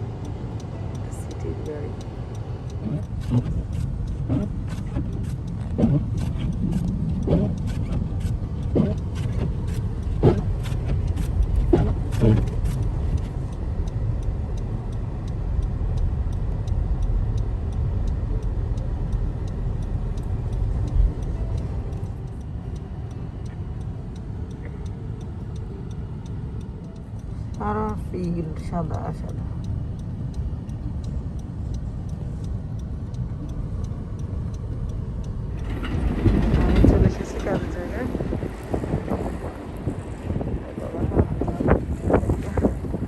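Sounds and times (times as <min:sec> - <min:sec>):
motor vehicle running: 0:00.0 - 0:43.0
regular ticking: 0:00.0 - 0:43.0.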